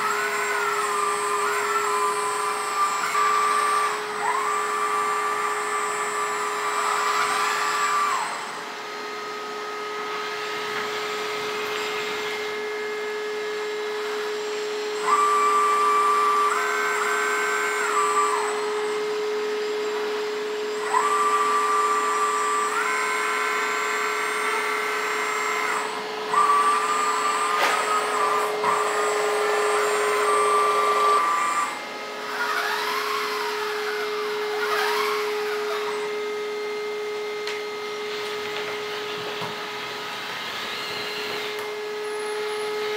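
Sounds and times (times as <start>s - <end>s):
hydraulic pump whining: 0.0s - 42.9s.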